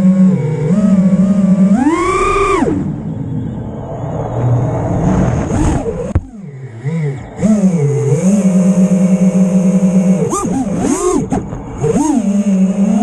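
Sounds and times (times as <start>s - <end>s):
quadcopter motors whining: 0.0s - 4.8s, 5.4s - 13.0s.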